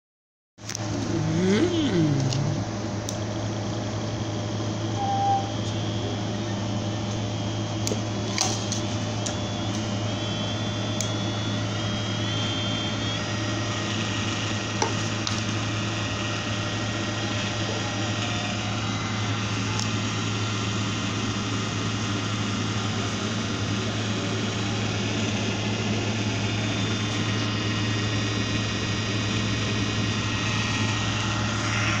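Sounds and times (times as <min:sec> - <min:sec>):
servo motor hum and whine: 0:00.7 - 0:32.0.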